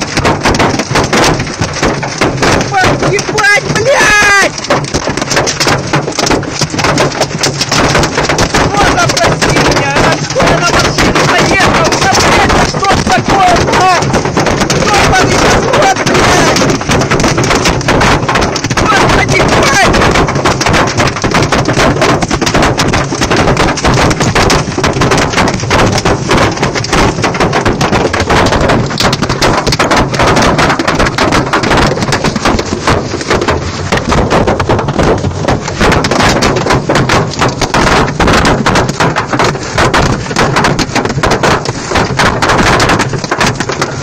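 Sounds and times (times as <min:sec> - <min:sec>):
hail clattering on car roof: 0:00.0 - 0:44.0.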